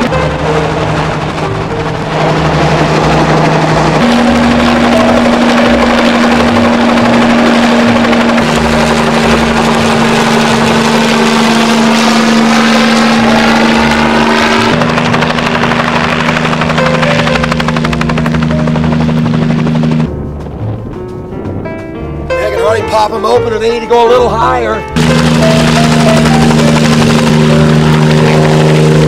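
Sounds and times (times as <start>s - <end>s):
helicopter hovering with rotor chop: 0.0s - 20.8s, 21.8s - 29.0s.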